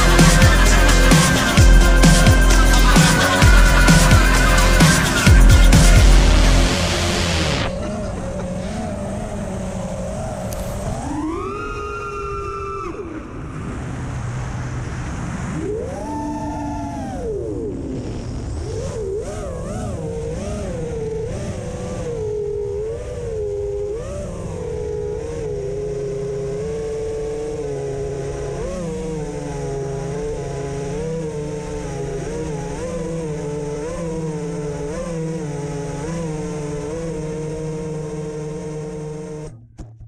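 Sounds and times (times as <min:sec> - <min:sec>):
quadcopter motors whining: 0:00.0 - 0:14.6, 0:15.5 - 0:39.5.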